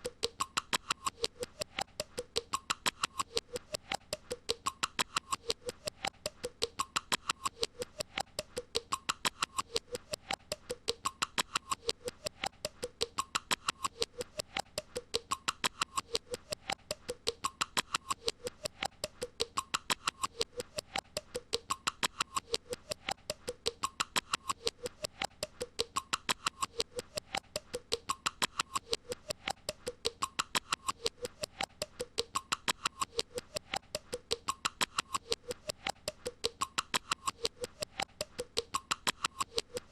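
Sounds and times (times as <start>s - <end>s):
rapid even clicking: 0.0s - 39.9s.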